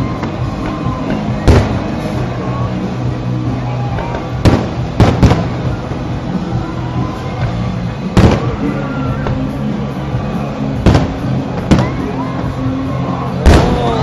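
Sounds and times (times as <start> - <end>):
background music: 0.0 - 14.0
fireworks bangs: 0.0 - 14.0.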